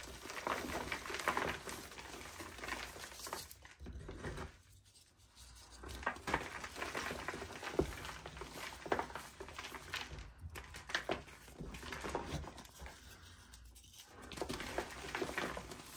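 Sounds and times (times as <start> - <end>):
chalk crunching and crumbling: 0.0 - 15.9.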